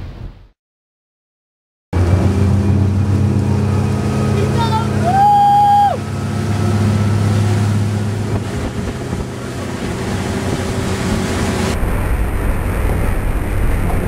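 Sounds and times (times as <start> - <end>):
boat engine drone: 2.0 - 14.0
rushing wind: 2.0 - 14.0.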